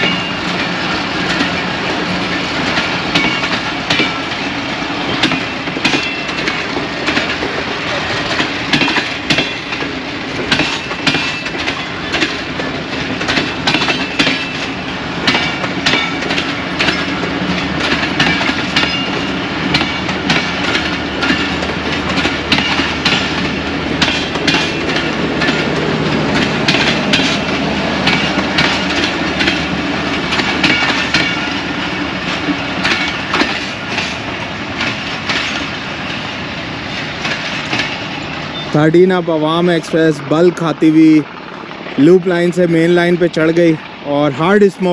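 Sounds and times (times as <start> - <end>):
train wheels clacking over rail joints: 0.0 - 44.9.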